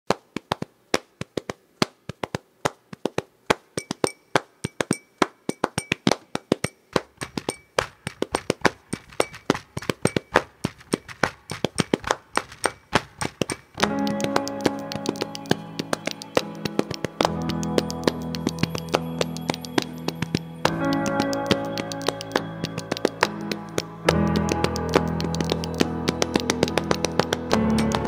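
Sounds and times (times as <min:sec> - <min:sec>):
sharp clicks: 0:03.8 - 0:28.0.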